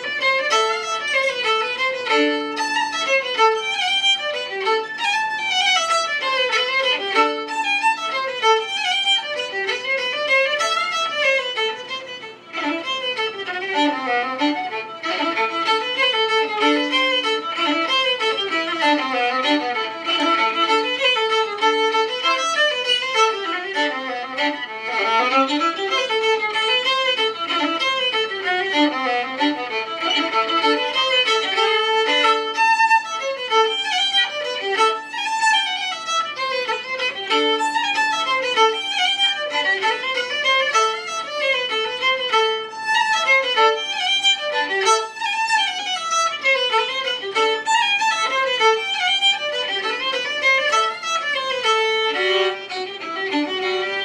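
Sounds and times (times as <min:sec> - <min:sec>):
solo fiddle playing: 0:00.0 - 0:54.0.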